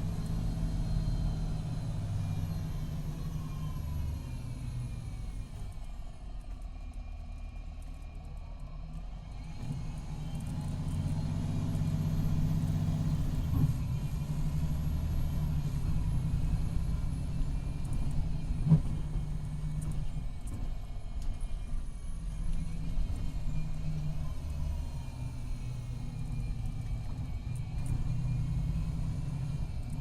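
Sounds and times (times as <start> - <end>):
diesel engine drone: 0.0 - 30.0.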